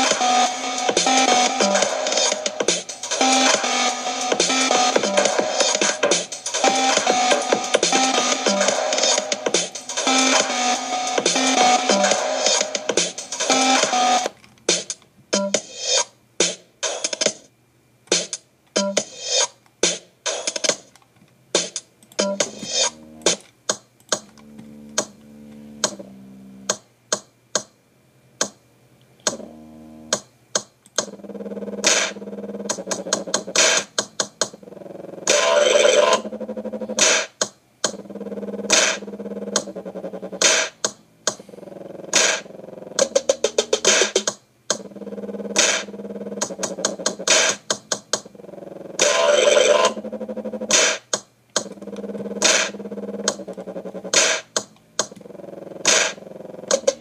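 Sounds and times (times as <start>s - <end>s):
electronic music: 0.0s - 16.0s, 21.6s - 23.5s, 24.1s - 26.8s, 29.2s - 30.2s, 31.0s - 37.3s, 37.9s - 51.0s, 51.6s - 57.0s.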